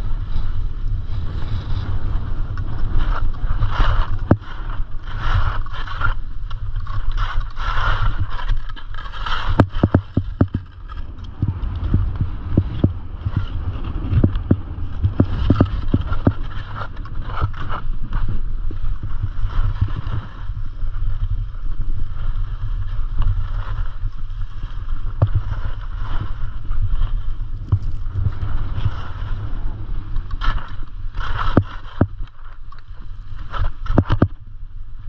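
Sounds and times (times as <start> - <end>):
skis scraping snow: 0.0 - 34.4
wind buffeting microphone: 0.0 - 35.0.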